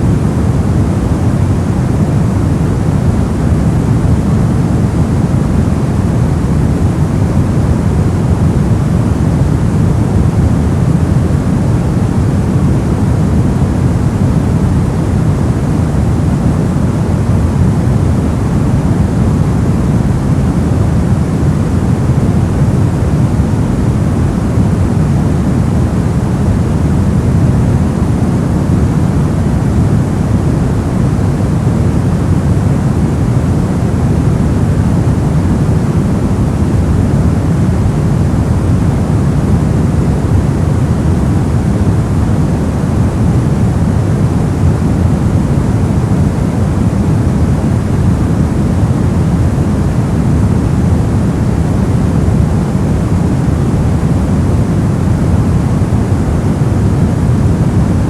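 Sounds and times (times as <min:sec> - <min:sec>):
low white noise rush: 0:00.0 - 0:58.0.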